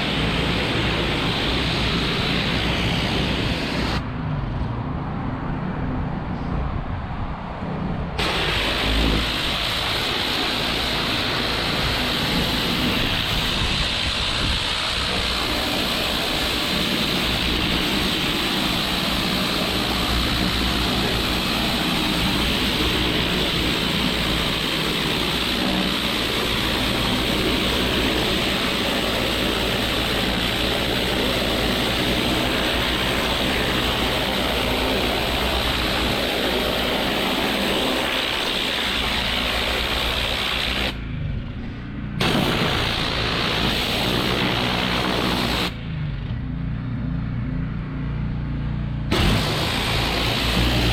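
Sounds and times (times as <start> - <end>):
high-pressure water jet hiss: 0.0 - 4.0, 8.2 - 41.0, 42.2 - 45.8, 49.1 - 50.9
pressure washer engine hum: 0.0 - 4.1, 8.2 - 45.9, 48.3 - 50.9.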